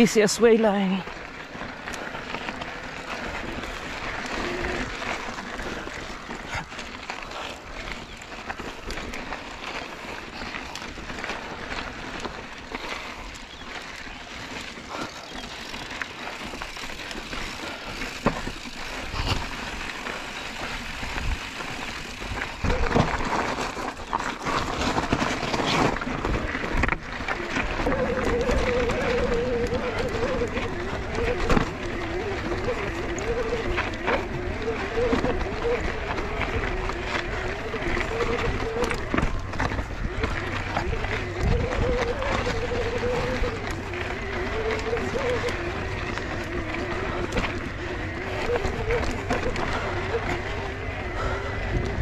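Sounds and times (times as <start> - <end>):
bike knocking and rattling: 0.0 - 52.0
bike tyres rushing on trail: 0.0 - 52.0.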